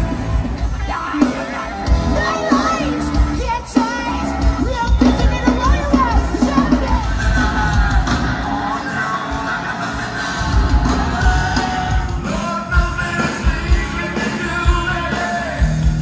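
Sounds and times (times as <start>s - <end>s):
crowd noise and yells: 0.0s - 16.0s
electric guitars: 0.0s - 16.0s
steady drum beat: 0.0s - 16.0s
person singing: 0.6s - 16.0s.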